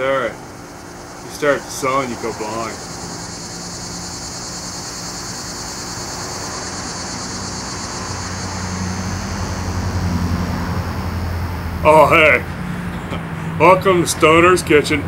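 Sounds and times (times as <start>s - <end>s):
insects buzzing: 0.0s - 15.0s
low engine drone: 0.0s - 15.0s.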